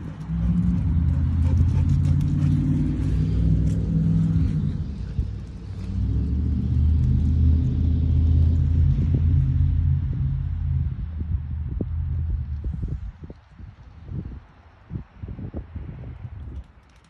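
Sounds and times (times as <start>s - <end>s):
low engine-like rumble: 0.0s - 16.8s.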